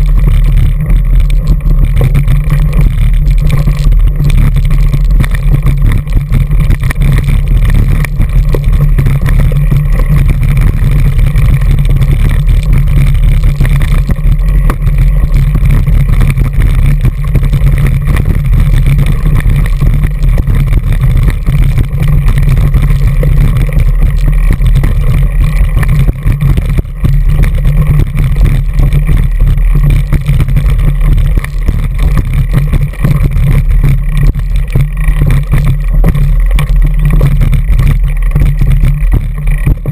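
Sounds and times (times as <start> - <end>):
low rumble of wind and trail vibration: 0.0 - 39.9.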